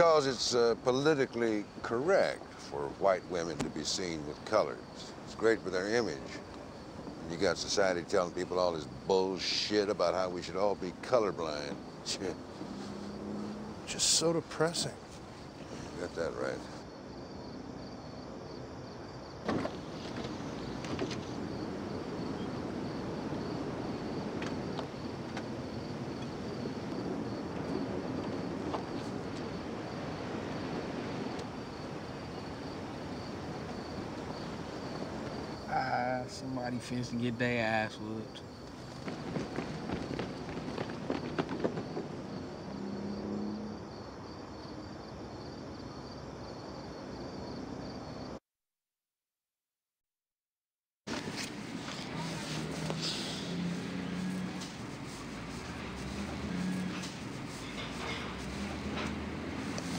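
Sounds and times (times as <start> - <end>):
crickets chirping: 0.0 - 48.4, 51.1 - 59.9.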